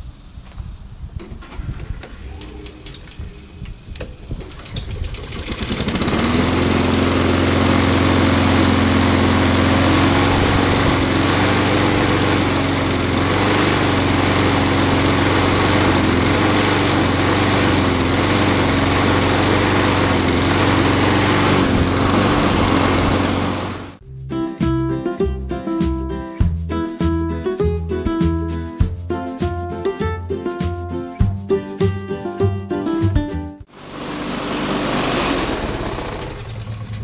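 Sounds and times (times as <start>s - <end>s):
petrol lawn mower engine: 4.1s - 24.0s, 26.9s - 37.0s.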